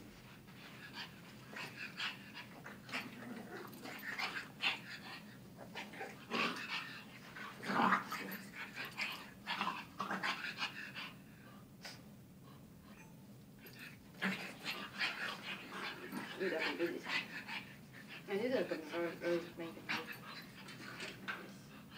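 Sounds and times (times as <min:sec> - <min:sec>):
puppies growling: 0:01.5 - 0:11.2, 0:13.6 - 0:21.9.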